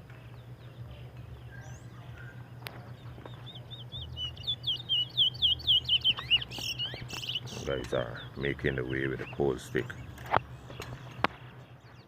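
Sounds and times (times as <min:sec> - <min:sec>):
songbird high chirps: 0:00.0 - 0:12.0
steady low hum: 0:00.0 - 0:12.0.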